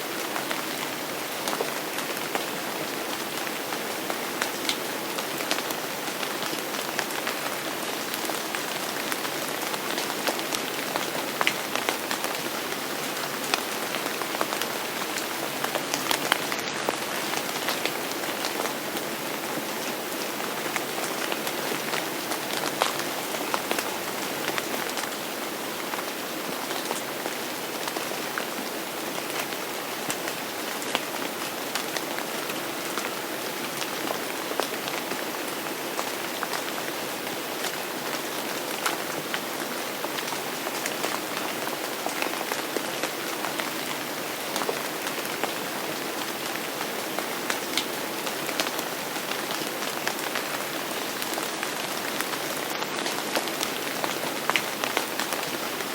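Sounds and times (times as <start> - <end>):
rain on a hard surface: 0.0 - 55.9.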